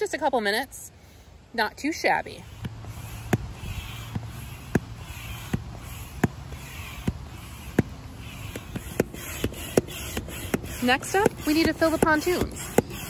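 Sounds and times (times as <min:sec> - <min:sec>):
soft rush of air: 0:00.0 - 0:11.5
hand pump clicking: 0:02.5 - 0:13.0.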